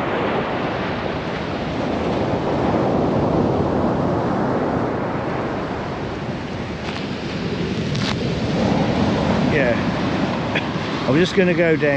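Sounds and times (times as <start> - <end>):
sea waves breaking on beach: 0.0 - 11.9.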